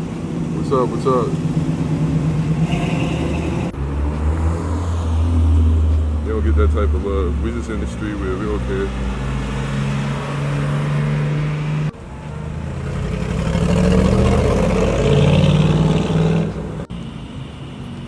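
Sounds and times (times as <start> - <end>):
car engine approaching: 0.0 - 17.6
car engine humming: 0.0 - 18.0.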